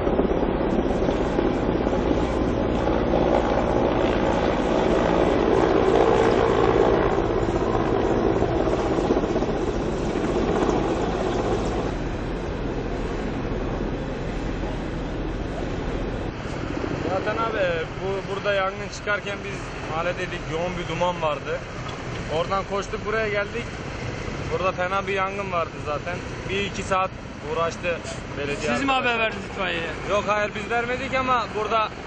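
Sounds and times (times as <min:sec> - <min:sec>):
helicopter rotor and engine: 0:00.0 - 0:32.0.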